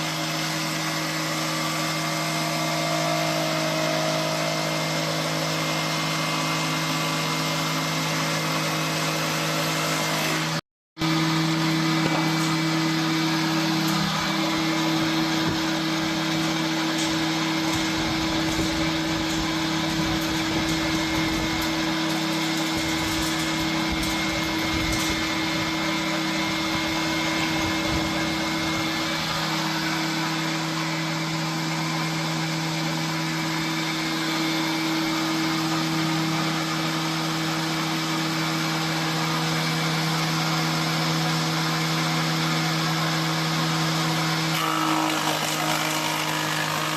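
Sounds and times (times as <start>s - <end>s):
planer machine running: 0.0s - 46.9s.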